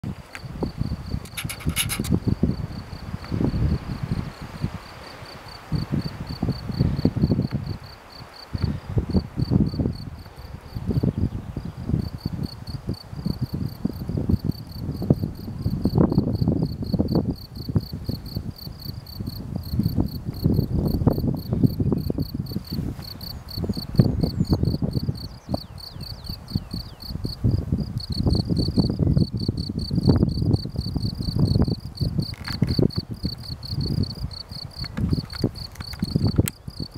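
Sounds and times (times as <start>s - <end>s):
wind buffeting microphone: 0.0s - 36.9s
insects chirping: 0.3s - 36.9s.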